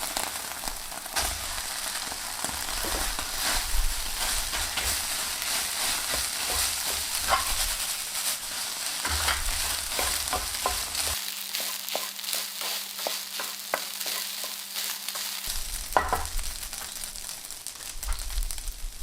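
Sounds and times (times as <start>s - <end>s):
utensil tapping and scraping pan: 0.0s - 16.4s
food sizzling in frying pan: 0.0s - 19.0s.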